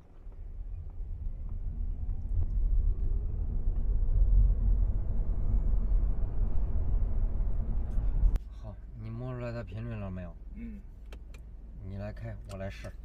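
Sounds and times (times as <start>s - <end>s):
car driving low rumble: 0.0s - 13.0s.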